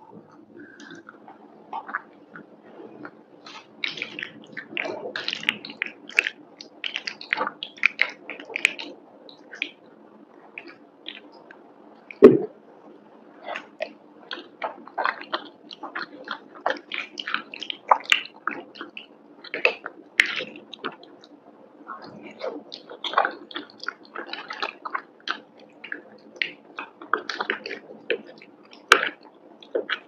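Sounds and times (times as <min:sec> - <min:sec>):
chewing with mouth clicks: 0:00.6 - 0:09.8, 0:13.4 - 0:21.3, 0:22.0 - 0:30.0.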